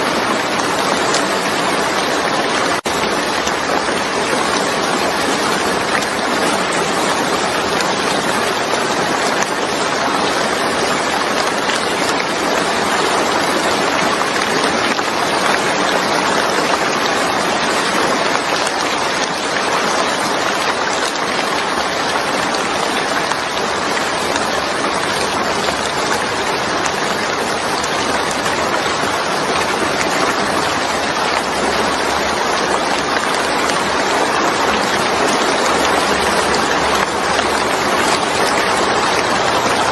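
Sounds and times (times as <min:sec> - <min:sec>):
steady rain on wet surface: 0:00.0 - 0:39.9.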